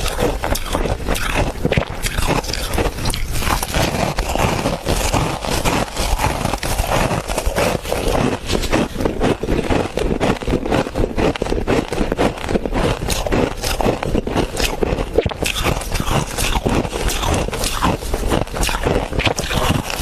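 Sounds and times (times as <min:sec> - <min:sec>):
frost being chewed crunching: 0:00.0 - 0:20.0.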